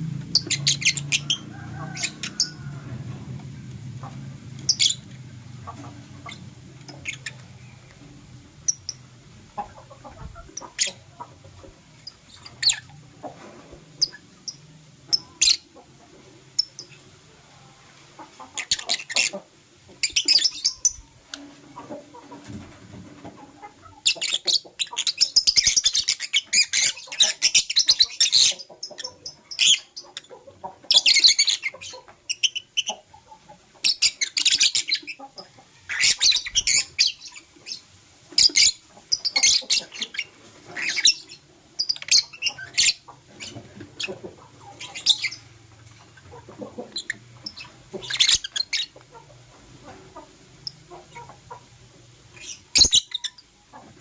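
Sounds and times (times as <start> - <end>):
lovebirds chirping and chattering: 0.0 - 54.0.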